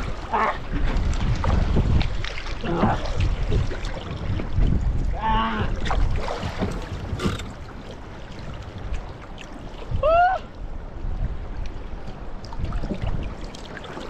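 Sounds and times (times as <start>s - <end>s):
water splashing against hull: 0.0s - 14.0s
wind buffeting microphone: 0.0s - 14.0s.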